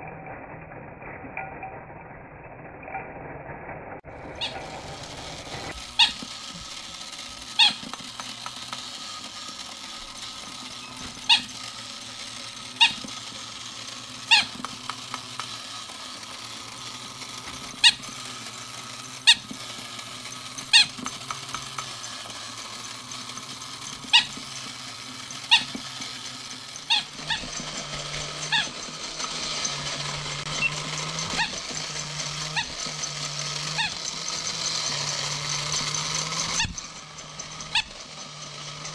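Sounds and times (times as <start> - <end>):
toy mechanism humming: 4.0 - 38.9.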